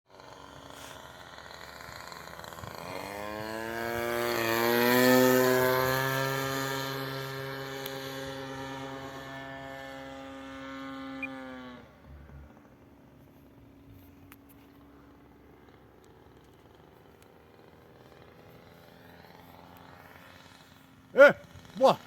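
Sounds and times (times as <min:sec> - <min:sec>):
model plane engine buzzing past: 0:00.1 - 0:22.0.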